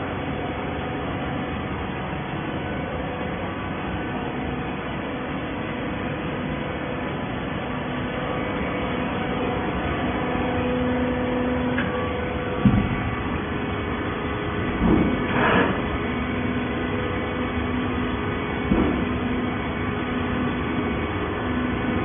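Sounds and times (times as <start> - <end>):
hydraulic baler machine hum: 0.0 - 22.0.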